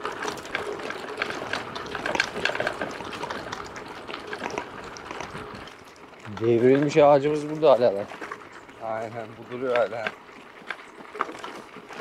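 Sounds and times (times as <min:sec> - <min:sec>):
bike tyres crunching on dirt: 0:00.0 - 0:12.0
small crackles and rattles: 0:00.0 - 0:12.0.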